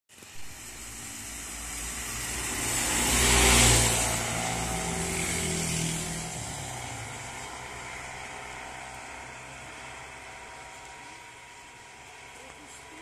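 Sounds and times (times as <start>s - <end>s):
motorcycle passing: 0.1s - 13.0s
tyres hissing on wet road: 0.1s - 13.0s
low engine drone: 0.2s - 13.0s
truck passing: 0.5s - 13.0s.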